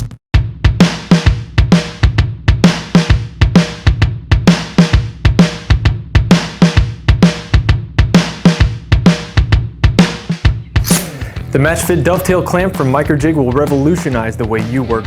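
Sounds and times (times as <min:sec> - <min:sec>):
music with driving drum beat: 0:00.0 - 0:15.0.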